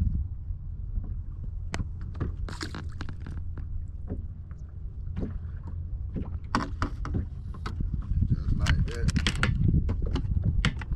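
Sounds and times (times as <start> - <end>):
wind rumbling on microphone: 0.0 - 10.9.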